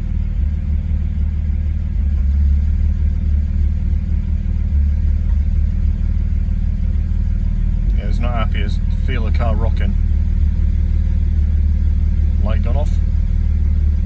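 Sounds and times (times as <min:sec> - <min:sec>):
car engine idling roughly: 0:00.0 - 0:14.0.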